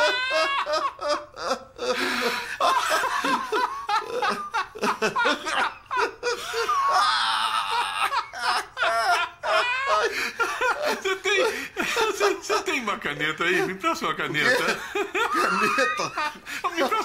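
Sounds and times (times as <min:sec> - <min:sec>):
men laughing hard: 0:00.0 - 0:17.0.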